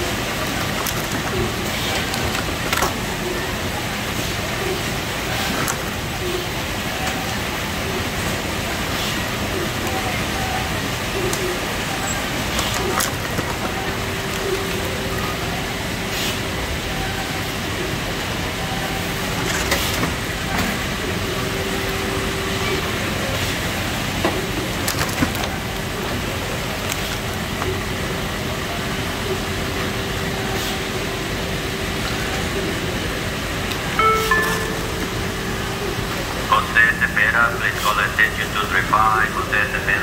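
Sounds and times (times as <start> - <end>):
conveyor machinery running: 0.0 - 40.0.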